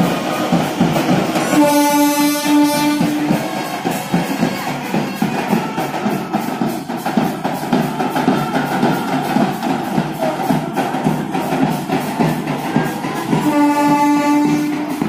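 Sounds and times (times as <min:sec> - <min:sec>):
band drums beating: 0:00.0 - 0:15.0
train running noise: 0:00.0 - 0:15.0.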